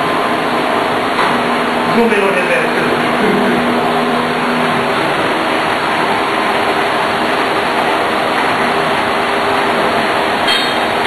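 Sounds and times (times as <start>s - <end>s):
large fans rushing: 0.0s - 11.0s.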